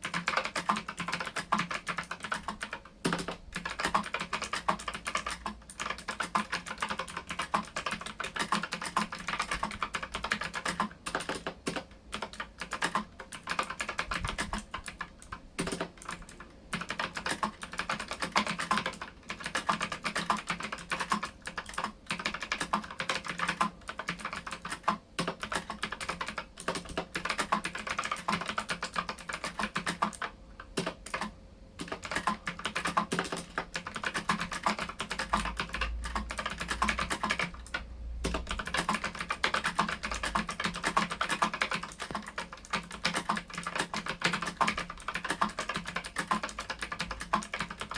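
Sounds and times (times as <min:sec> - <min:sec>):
mechanical keyboard typing: 0:00.0 - 0:47.9.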